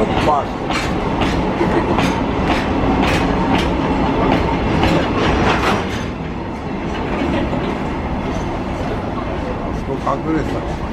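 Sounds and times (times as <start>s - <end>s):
wheels clacking over rail joints: 0.0s - 9.0s
freight train rumble: 0.0s - 10.9s.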